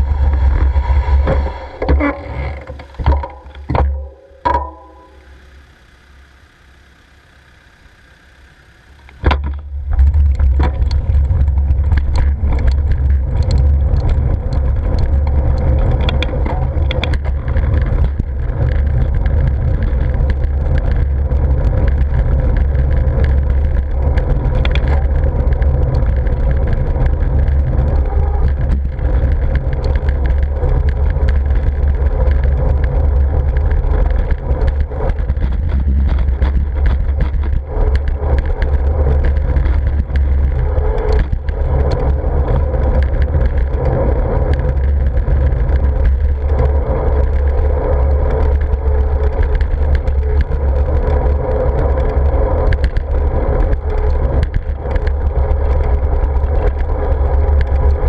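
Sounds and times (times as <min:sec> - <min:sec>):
wind buffeting microphone: 0:00.0 - 0:03.9, 0:09.2 - 0:58.0
bike rattling clicks: 0:09.0 - 0:58.0.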